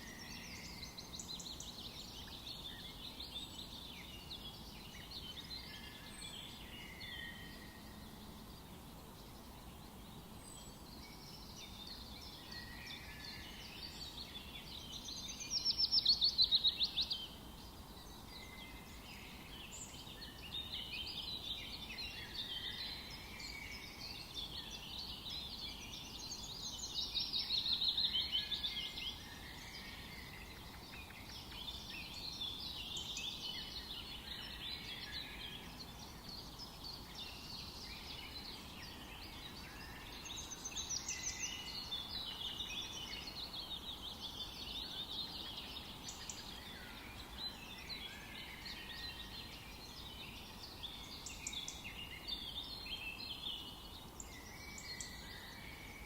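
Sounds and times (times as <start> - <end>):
birds singing: 0.0 - 56.0
faint steady hiss: 0.0 - 56.0.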